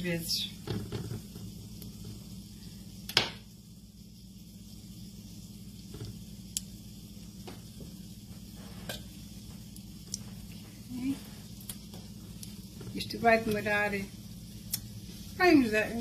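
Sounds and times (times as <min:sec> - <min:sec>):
batter sizzling in oil: 0:00.0 - 0:16.0
steady low hum: 0:00.0 - 0:16.0.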